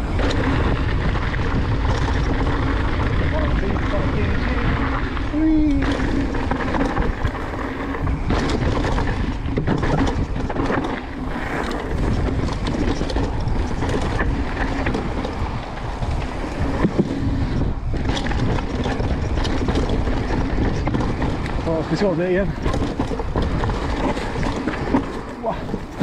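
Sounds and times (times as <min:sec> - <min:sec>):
bike clattering over rough ground: 0:00.0 - 0:26.0
bike tyre noise: 0:00.0 - 0:26.0
wind on microphone: 0:00.0 - 0:26.0.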